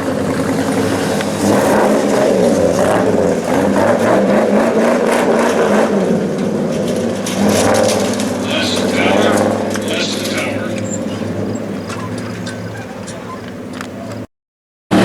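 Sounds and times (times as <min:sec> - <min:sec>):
race truck engines revving: 0:00.0 - 0:14.3.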